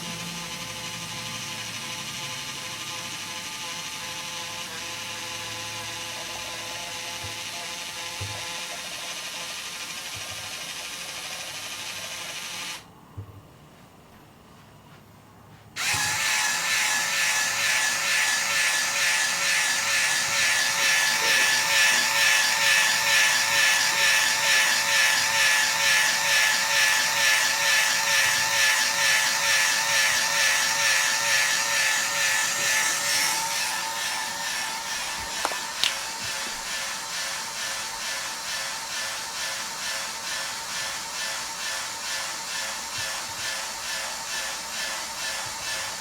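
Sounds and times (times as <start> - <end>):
small electric motor whine: 0.0 - 12.9, 15.8 - 46.0.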